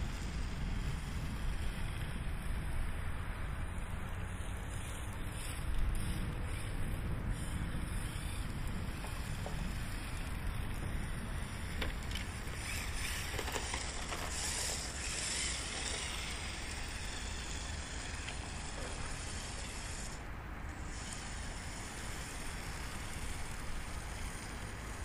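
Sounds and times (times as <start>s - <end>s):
rc car motor and tyres rushing: 0.0s - 25.0s.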